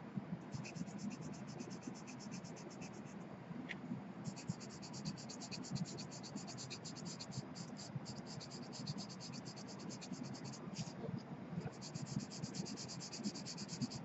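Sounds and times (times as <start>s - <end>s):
charcoal scratching on paper: 0.6s - 3.2s, 4.3s - 11.0s, 11.7s - 14.0s.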